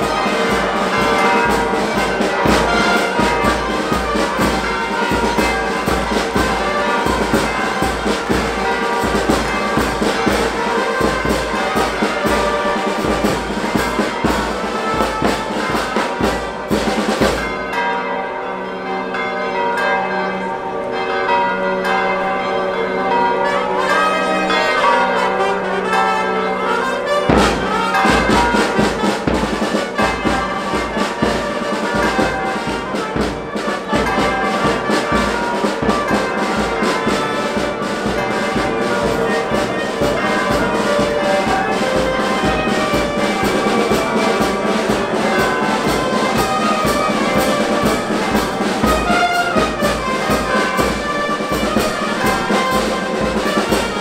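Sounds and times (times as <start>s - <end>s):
brass and bell music: 0.0s - 54.0s.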